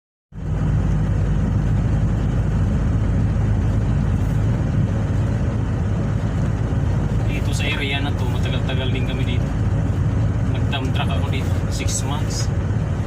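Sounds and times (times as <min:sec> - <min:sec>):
heavy truck engine drone: 0:00.3 - 0:13.0
road noise: 0:00.3 - 0:13.0.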